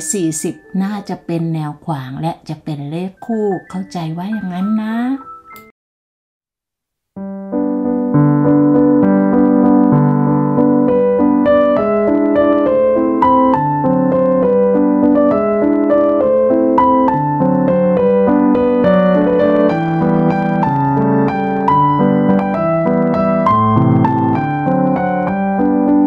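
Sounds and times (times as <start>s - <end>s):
gentle piano music: 0.0s - 5.7s, 7.2s - 26.0s.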